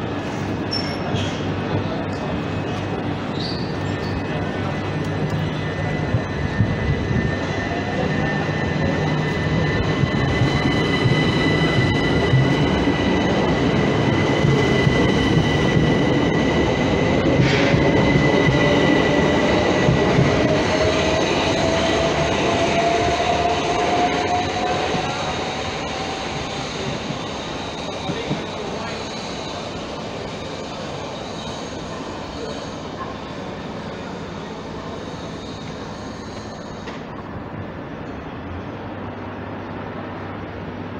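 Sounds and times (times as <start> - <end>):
train carriages rumbling: 0.0 - 40.9.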